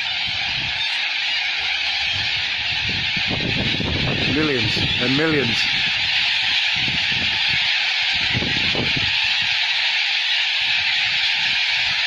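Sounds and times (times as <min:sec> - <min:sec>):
flock of cockatoos squawking: 0:00.0 - 0:12.0.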